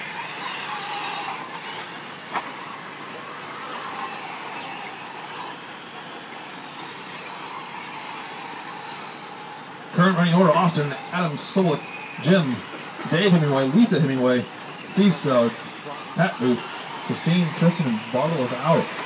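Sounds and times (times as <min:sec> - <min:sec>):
toy truck motors whining: 0:00.0 - 0:19.0.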